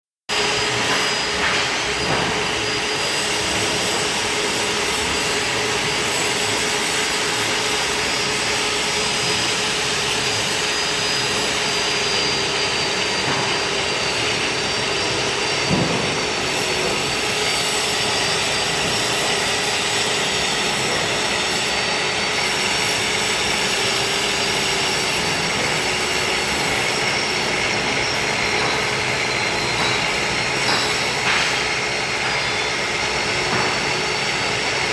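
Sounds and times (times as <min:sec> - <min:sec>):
grinding machine running: 0:00.3 - 0:34.9
machine whine: 0:00.3 - 0:34.9.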